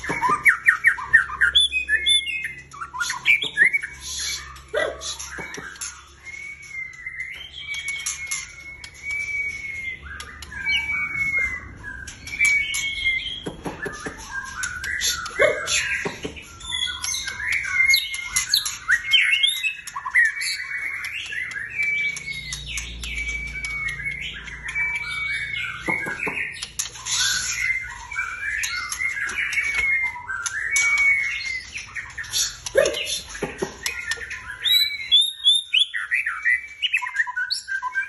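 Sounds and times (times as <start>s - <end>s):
bird singing whistled notes: 0.0s - 33.3s, 33.9s - 38.0s.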